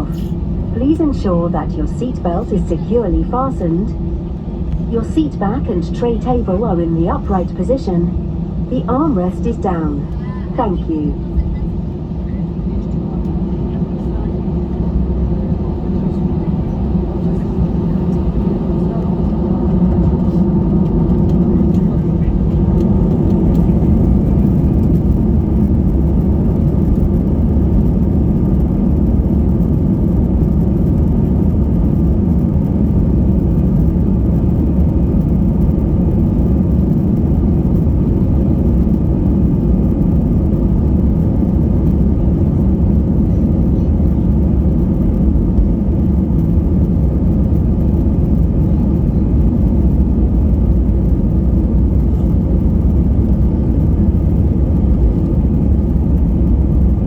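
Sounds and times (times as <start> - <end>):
jet engines heard from cabin: 0.0 - 57.0.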